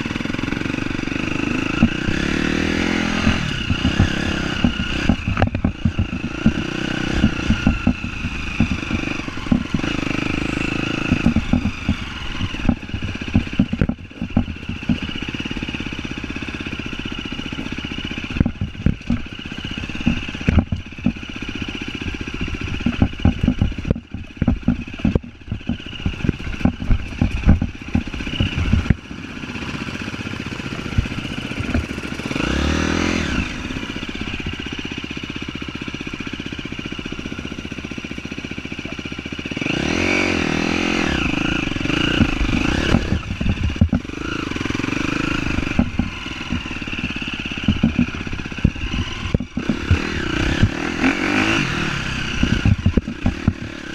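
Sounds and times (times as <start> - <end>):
off-road vehicle engine: 0.0 - 53.9
knocks and rattles from bumps: 1.2 - 15.8, 16.8 - 35.0, 40.7 - 53.9.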